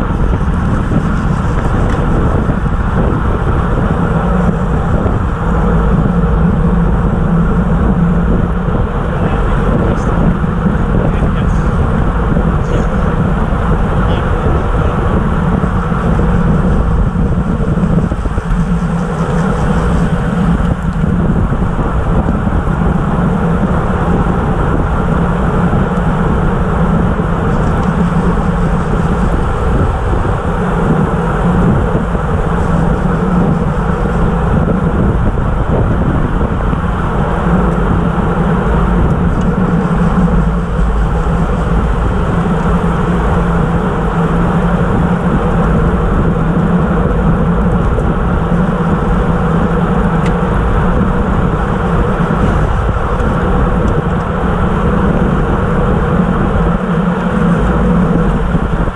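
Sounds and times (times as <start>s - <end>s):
bike tyres humming on pavement: 0.0s - 58.9s
wind rushing over microphone: 0.0s - 58.9s.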